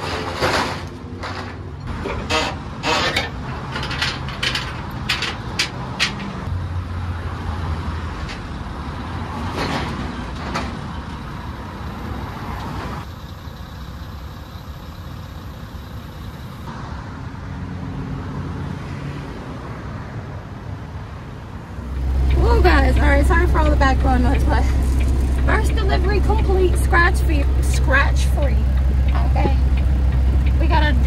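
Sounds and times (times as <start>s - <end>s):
busy road traffic rumble: 0.0s - 31.0s.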